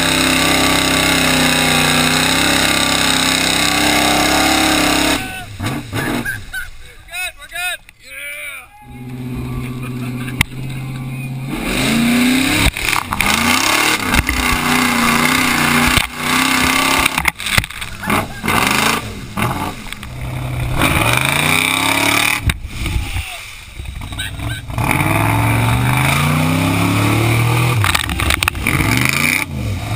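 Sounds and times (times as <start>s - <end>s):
truck engine revving: 0.0s - 6.9s, 8.9s - 23.1s, 23.8s - 29.9s
mud and water spraying: 0.0s - 7.0s, 9.1s - 29.9s.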